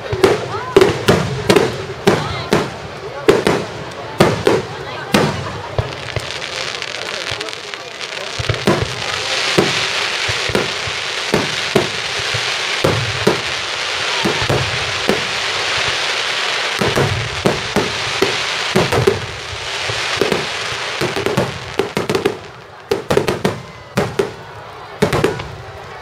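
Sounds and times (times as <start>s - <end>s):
continuous firework hiss: 0.0s - 26.0s
fireworks bursting: 0.0s - 26.0s.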